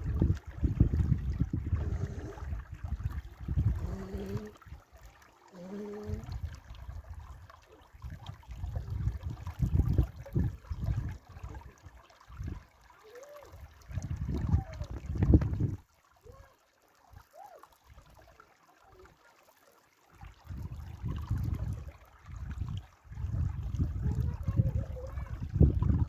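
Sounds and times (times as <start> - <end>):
flowing water: 0.0 - 26.0.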